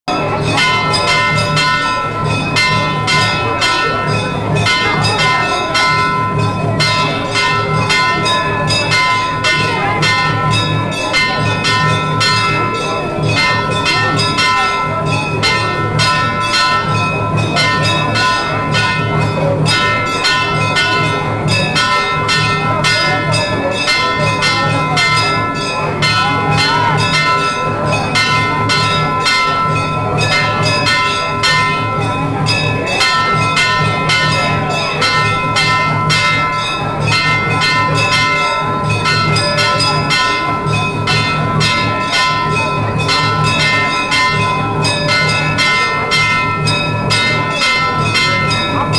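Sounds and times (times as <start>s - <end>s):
temple bells ringing: 0.1s - 48.9s.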